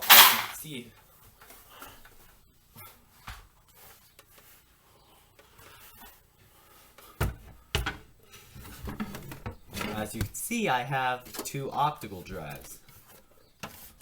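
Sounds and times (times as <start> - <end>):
rubbing and rustling: 0.0 - 14.0.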